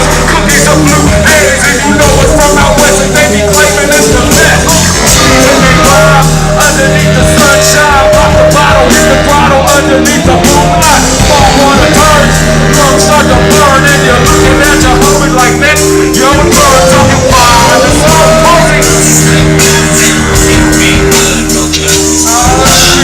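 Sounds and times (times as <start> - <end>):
drums with busy cymbals: 0.0 - 23.0
live band music: 0.0 - 23.0.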